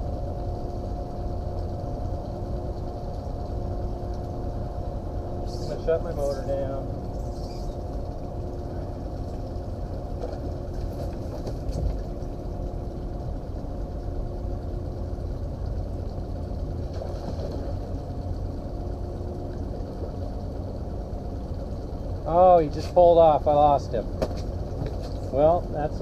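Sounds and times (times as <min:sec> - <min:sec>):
outboard motor idling: 0:00.0 - 0:26.0.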